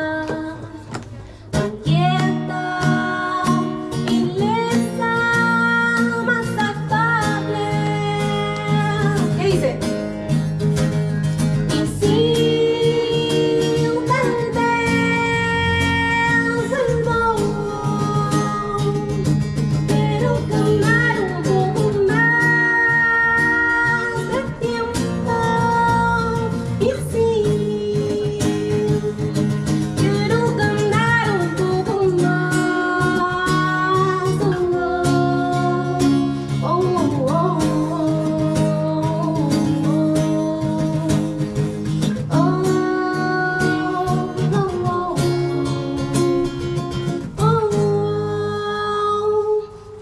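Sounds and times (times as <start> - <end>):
woman singing into microphone: 0.0 - 10.7, 11.4 - 50.0
strummed acoustic guitar: 0.0 - 50.0.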